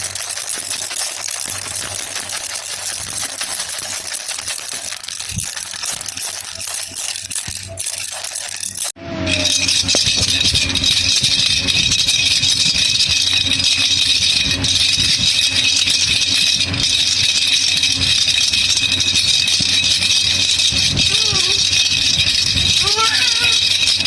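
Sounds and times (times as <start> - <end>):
baby rattle shaken: 0.0 - 24.0.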